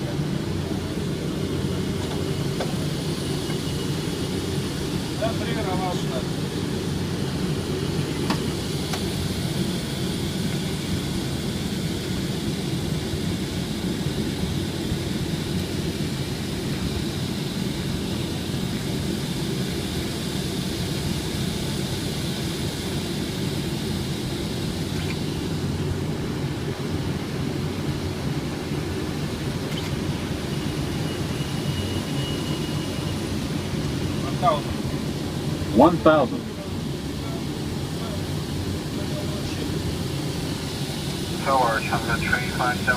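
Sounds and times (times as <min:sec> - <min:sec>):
cockpit airflow and engine rumble: 0:00.0 - 0:42.9.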